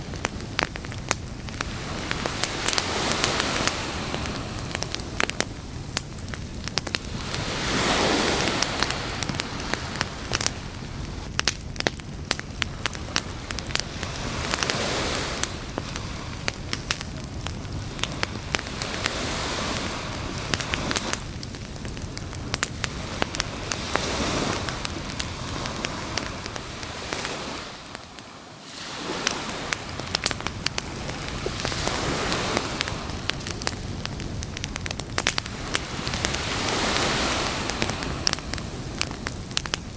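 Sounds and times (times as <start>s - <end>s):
campfire crackling: 0.0s - 39.9s
surf washing onto beach: 0.0s - 39.9s.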